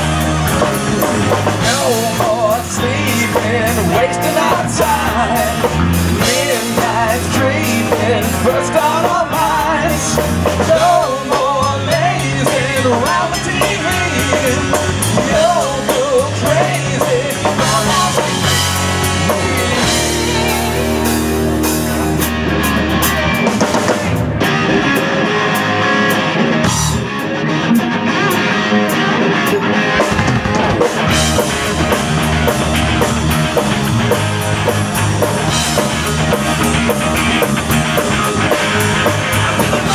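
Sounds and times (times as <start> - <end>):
live rock band playing: 0.0 - 39.9
wavering lead guitar melody: 0.0 - 39.9.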